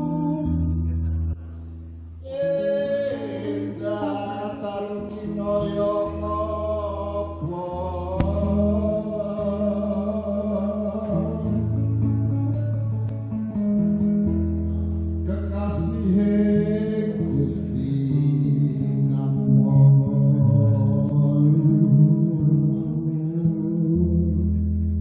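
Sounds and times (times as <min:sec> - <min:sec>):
person singing: 0:00.0 - 0:13.0, 0:15.2 - 0:25.0.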